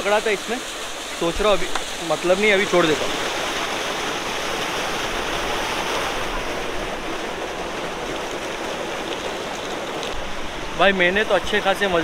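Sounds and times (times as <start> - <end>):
small waterfall over rocks: 0.0 - 12.0.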